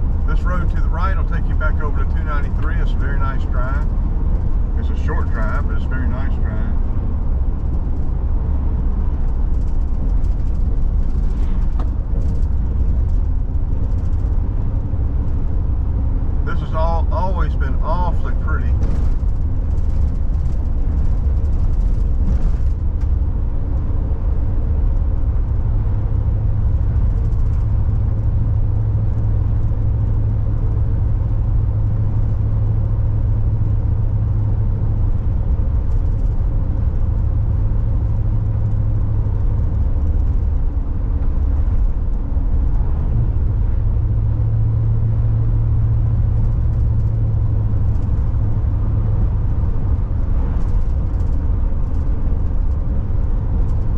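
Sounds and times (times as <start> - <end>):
car cabin road noise: 0.0 - 53.9.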